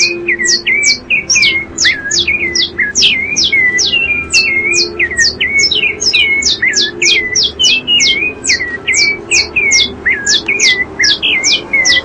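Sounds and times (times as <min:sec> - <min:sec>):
birds calling with descending calls: 0:00.0 - 0:12.0.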